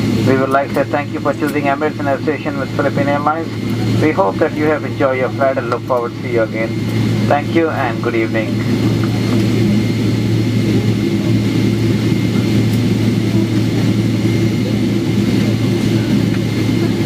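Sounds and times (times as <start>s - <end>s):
aircraft cabin engine drone: 0.0s - 17.0s.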